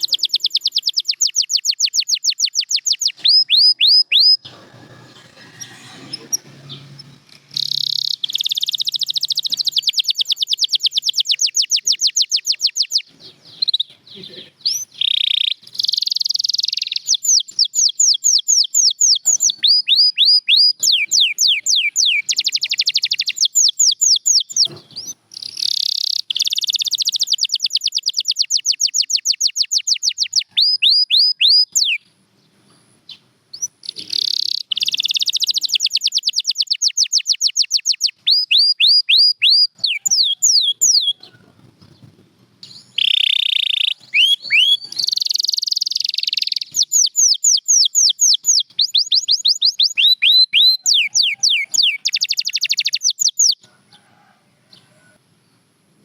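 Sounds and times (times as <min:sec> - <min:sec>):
canary singing trills: 0:00.0 - 0:32.1, 0:33.1 - 0:55.0.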